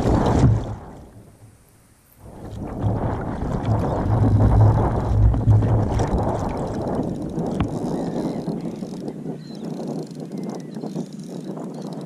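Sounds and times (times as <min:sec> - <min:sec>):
water noise: 0:00.0 - 0:10.4
wind buffeting microphone: 0:02.2 - 0:12.0.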